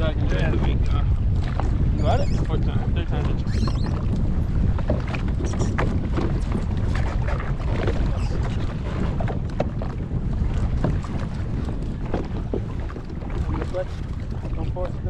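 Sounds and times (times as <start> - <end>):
personal watercraft engine rumble: 0.0 - 15.0
water splashing against hull: 0.0 - 15.0
wind buffeting microphone: 0.0 - 15.0.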